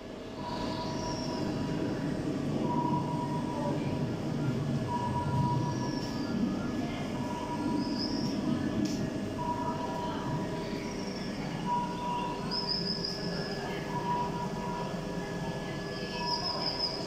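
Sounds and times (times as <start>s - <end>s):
low rumbling room noise: 0.0s - 17.0s.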